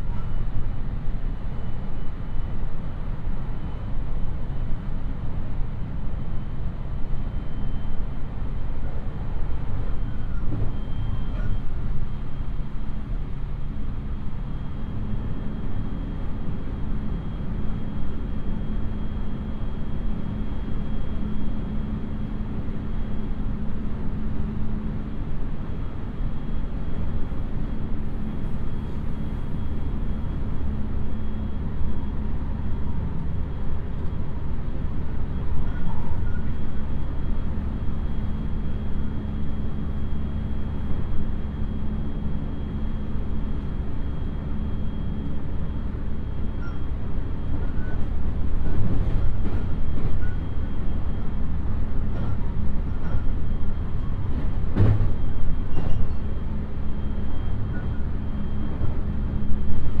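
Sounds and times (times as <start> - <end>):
train running rumble: 0.0 - 60.0.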